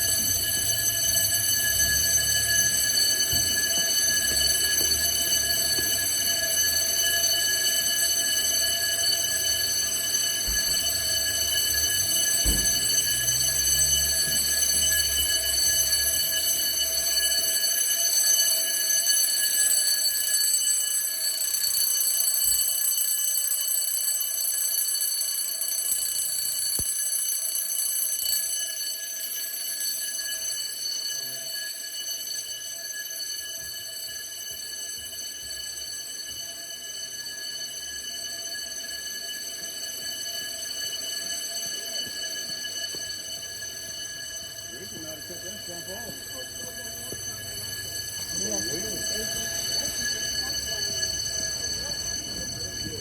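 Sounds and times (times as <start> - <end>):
fire alarm bells ringing: 0.0 - 53.0.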